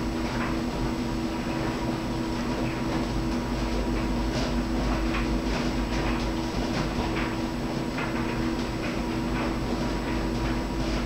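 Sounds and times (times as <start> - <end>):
clothes dryer running: 0.0 - 11.0.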